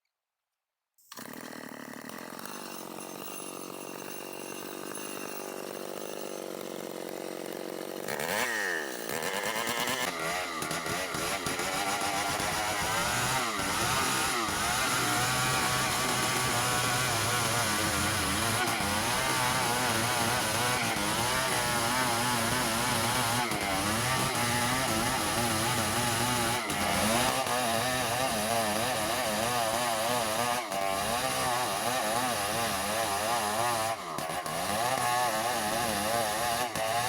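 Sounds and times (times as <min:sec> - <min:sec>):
chainsaw cutting wood: 0:01.1 - 0:37.0.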